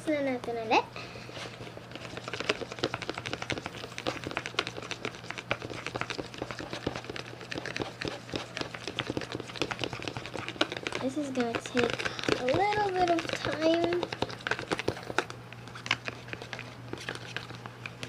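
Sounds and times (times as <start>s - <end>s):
slime stirred in a bowl: 0.2s - 18.0s.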